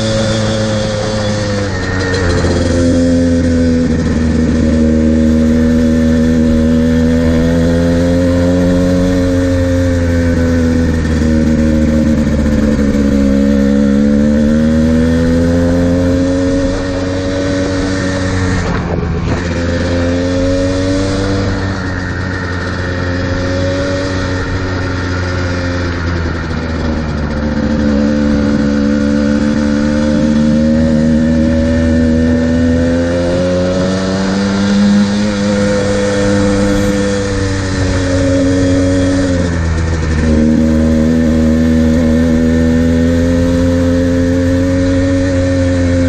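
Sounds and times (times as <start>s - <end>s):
two-stroke dirt bike engine: 0.0s - 46.0s
wind rushing over microphone: 0.0s - 46.0s.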